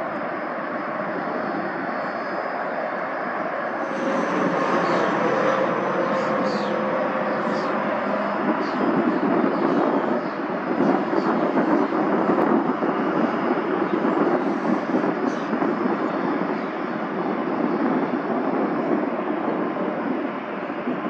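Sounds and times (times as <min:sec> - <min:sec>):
jet engines taxiing: 0:00.0 - 0:21.0.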